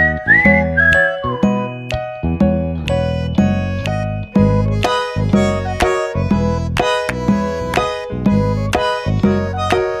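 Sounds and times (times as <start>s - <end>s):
bass notes: 0.0s - 10.0s
whistled melody: 0.0s - 10.0s.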